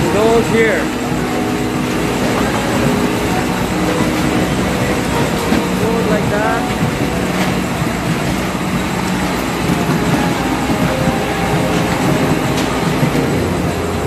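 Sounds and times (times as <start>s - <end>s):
machinery rattling: 0.0s - 14.0s.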